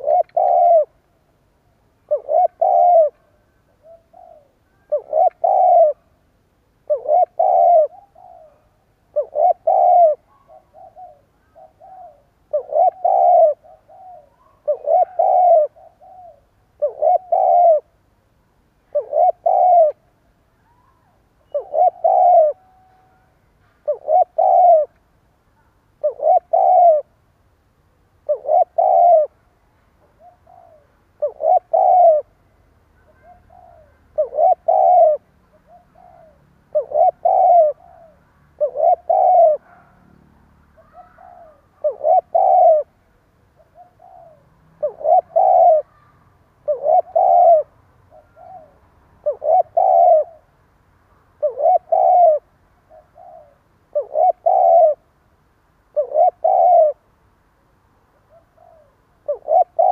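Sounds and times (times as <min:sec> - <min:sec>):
dove cooing: 0:00.0 - 0:01.0, 0:01.9 - 0:06.2, 0:06.8 - 0:18.0, 0:18.8 - 0:25.0, 0:25.6 - 0:27.2, 0:28.2 - 0:29.4, 0:30.0 - 0:32.4, 0:33.0 - 0:50.5, 0:51.4 - 0:55.2, 0:55.9 - 0:57.1, 0:58.2 - 0:59.9.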